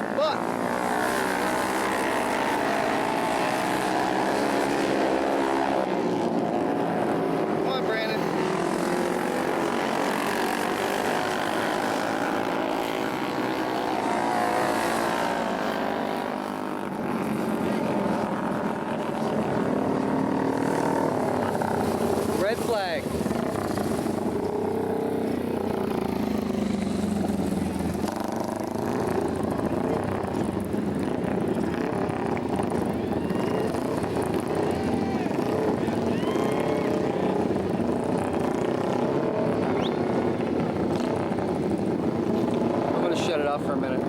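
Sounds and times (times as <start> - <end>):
racing motorcycle engines: 0.0 - 44.0.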